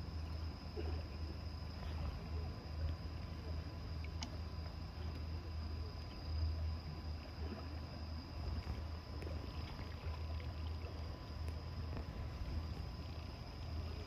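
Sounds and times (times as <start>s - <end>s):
faint high whine: 0.0s - 14.0s
low engine hum: 0.0s - 14.0s.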